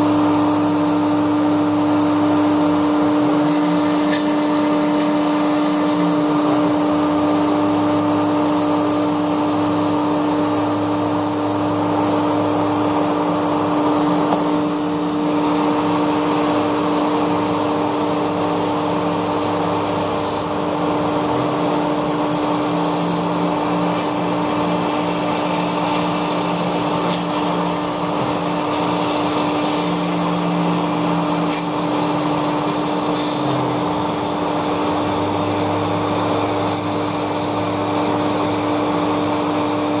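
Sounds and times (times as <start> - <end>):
low motor hum: 0.0 - 40.0
router spindle whine: 0.0 - 40.0.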